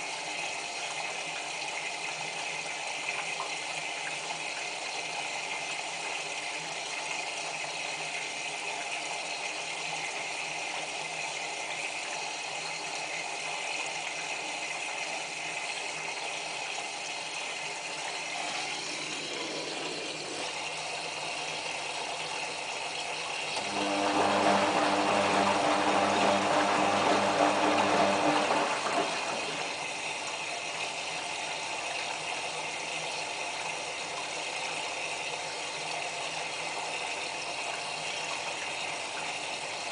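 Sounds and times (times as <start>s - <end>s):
motor hum with rushing water: 0.0s - 39.9s
water hissing into washing machine: 0.0s - 39.9s.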